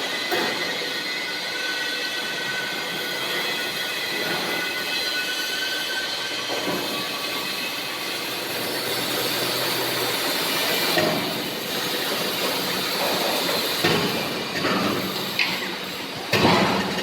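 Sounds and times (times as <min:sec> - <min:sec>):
industrial machinery noise: 0:00.0 - 0:17.0.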